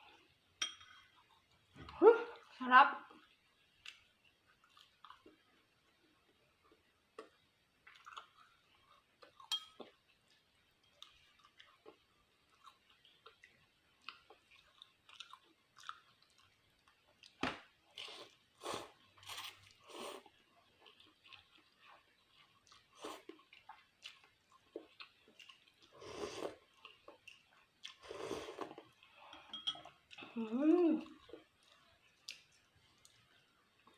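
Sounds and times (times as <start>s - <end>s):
person chewing food: 3.2s - 30.4s, 31.0s - 33.9s.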